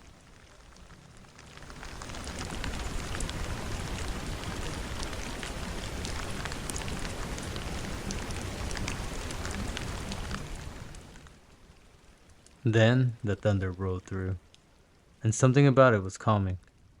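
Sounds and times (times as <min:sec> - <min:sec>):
raindrops hitting a surface: 0:00.0 - 0:17.0
steady rain falling: 0:00.0 - 0:17.0.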